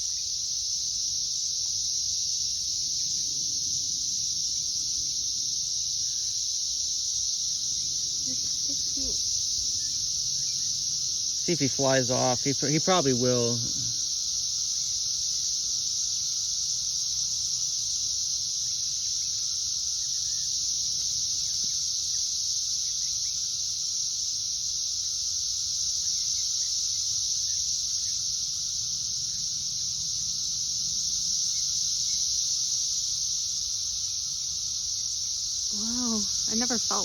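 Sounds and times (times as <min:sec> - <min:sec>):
cicadas droning: 0:00.0 - 0:37.0.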